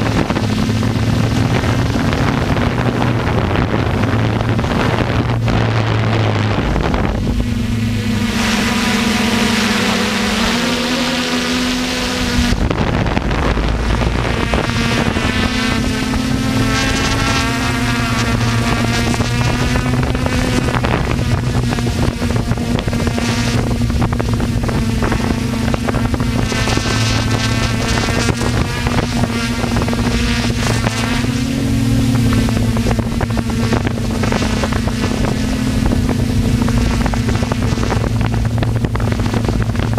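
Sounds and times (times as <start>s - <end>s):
electric model aircraft motors droning: 0.0s - 39.9s
wind buffeting microphone: 0.0s - 39.9s.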